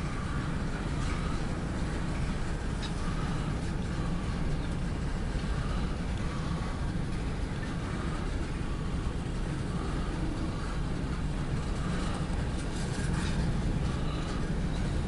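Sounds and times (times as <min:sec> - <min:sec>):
vehicle rumble in motion: 0:00.0 - 0:15.0.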